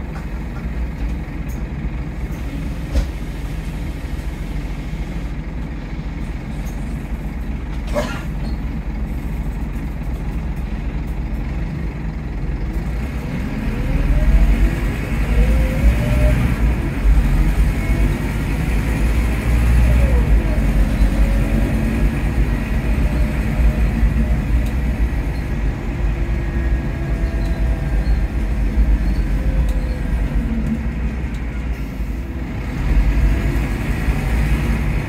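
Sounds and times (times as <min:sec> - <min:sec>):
bus engine running: 0:00.0 - 0:35.0.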